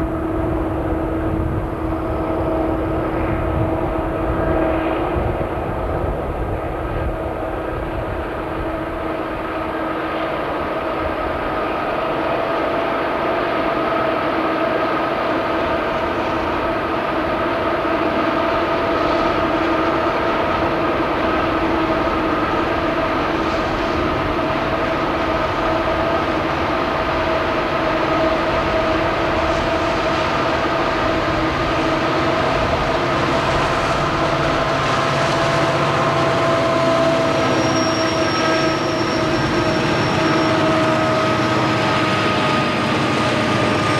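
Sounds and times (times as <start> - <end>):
diesel locomotive engines droning: 0.0 - 43.9.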